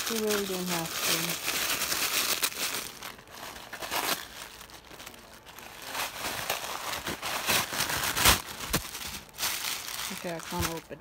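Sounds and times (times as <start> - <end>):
wrapping paper crinkling: 0.0 - 11.0.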